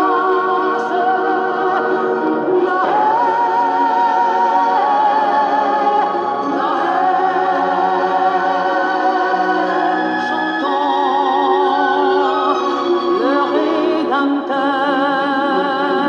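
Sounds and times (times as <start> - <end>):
singer with wide vibrato: 0.0 - 16.0.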